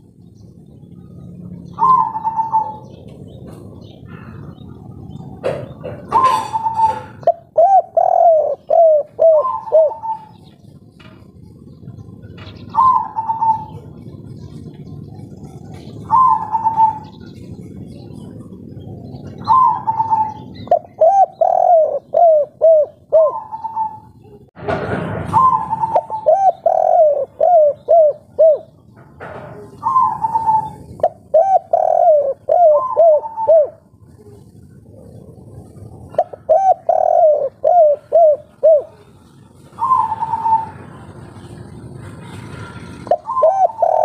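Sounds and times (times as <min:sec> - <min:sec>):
dove cooing: 0:00.9 - 0:24.5, 0:25.4 - 0:41.6, 0:42.2 - 0:44.0.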